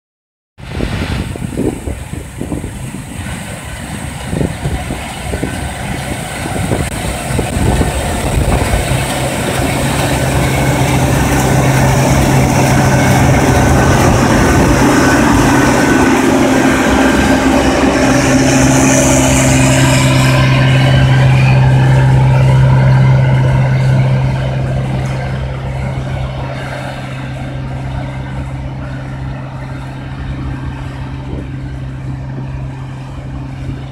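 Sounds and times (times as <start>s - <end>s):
cotton picker engine drone: 0.7s - 33.9s
mechanical whine: 0.7s - 33.9s.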